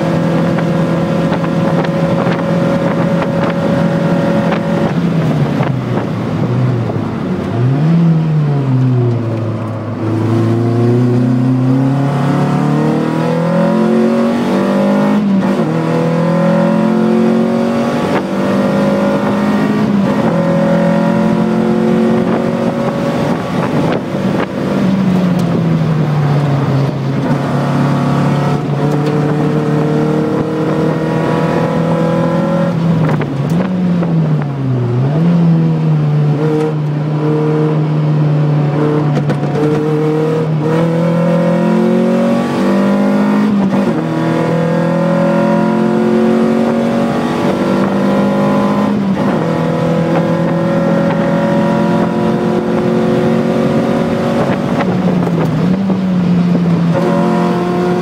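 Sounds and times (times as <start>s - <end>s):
car engine from inside cabin: 0.0s - 58.0s.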